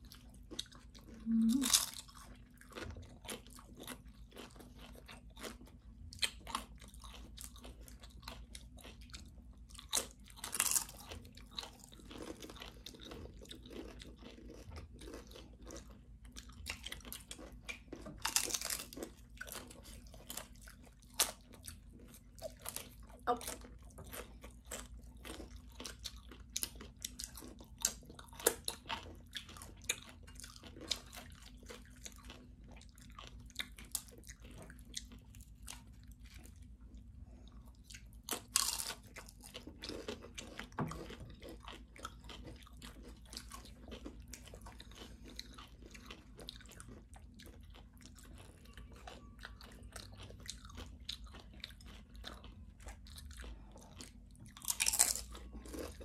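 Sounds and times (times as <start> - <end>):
tortilla chips crunching: 0.0 - 56.0.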